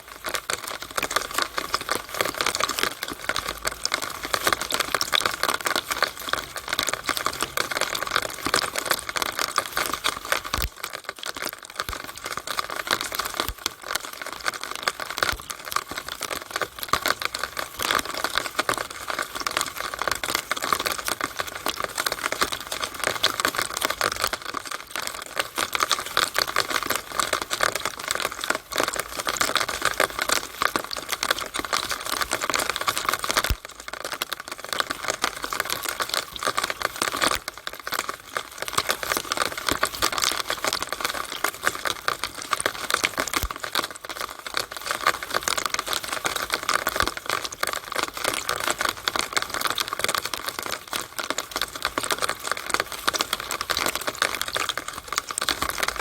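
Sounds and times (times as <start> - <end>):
rainwater pouring through downspout: 0.0 - 56.0.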